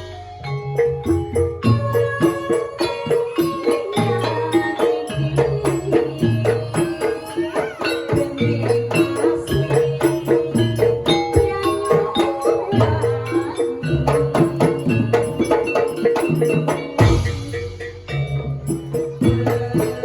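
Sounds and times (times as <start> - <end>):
gamelan music: 0.0 - 20.0.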